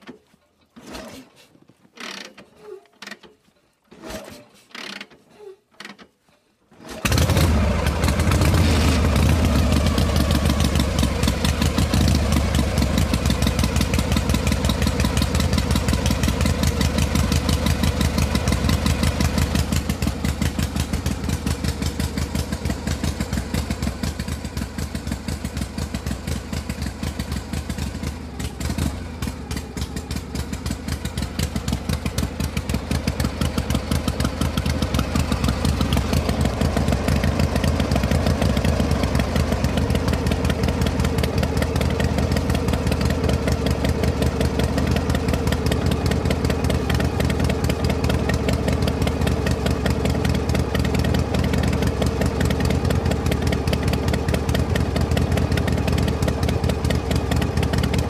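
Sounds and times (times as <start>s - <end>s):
motorcycle engine idling: 7.0s - 58.0s.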